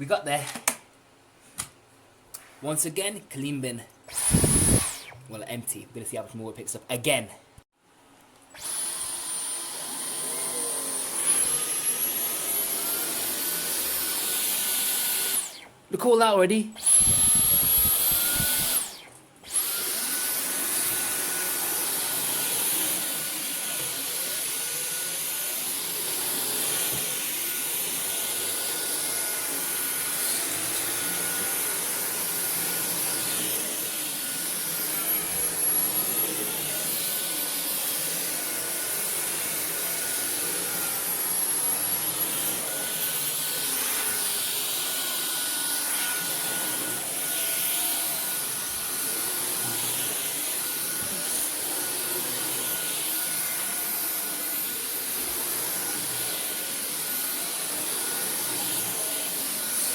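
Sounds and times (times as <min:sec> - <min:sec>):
vacuum cleaner motor whine: 0:04.1 - 0:05.2, 0:08.5 - 0:15.7, 0:16.8 - 0:59.9.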